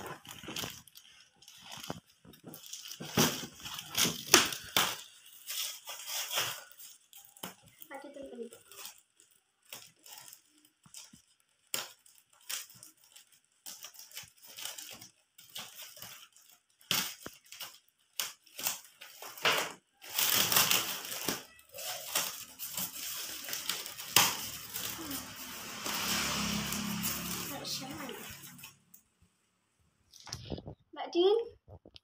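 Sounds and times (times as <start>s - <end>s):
wrapping crinkling and tearing: 0.0s - 29.1s.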